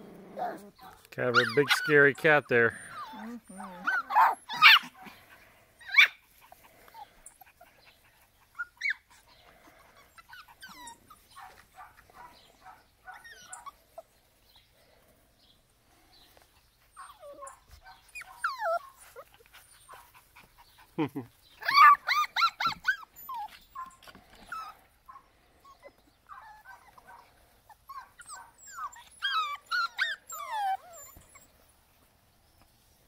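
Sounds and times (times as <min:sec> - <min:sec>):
puppies yipping and whimpering: 0:00.3 - 0:14.7, 0:16.3 - 0:32.1.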